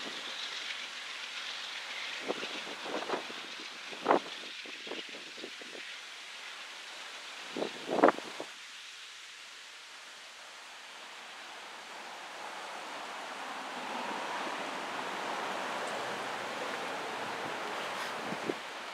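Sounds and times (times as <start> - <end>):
wind rustling leaves: 0.0 - 18.9.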